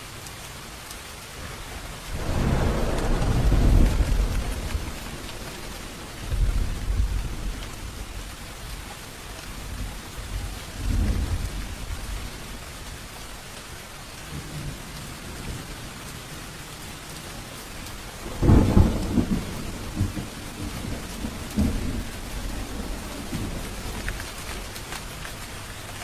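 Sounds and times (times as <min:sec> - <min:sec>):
steady rain falling: 0:00.0 - 0:26.0
thunder rumbling: 0:01.4 - 0:13.2, 0:14.2 - 0:25.8.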